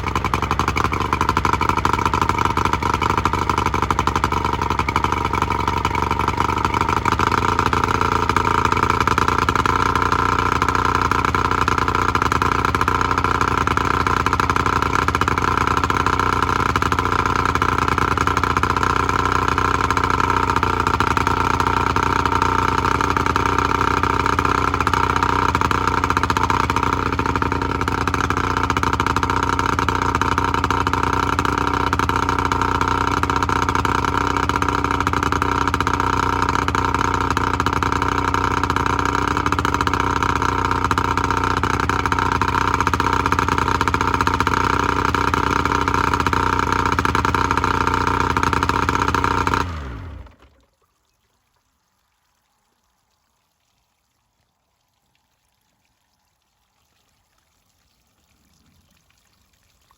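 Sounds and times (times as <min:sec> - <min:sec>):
outboard motor idling: 0:00.0 - 0:50.8.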